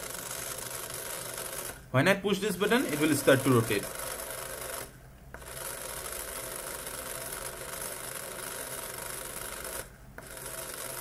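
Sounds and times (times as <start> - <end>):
small electric motor whirring: 0.0 - 1.8, 2.6 - 11.0.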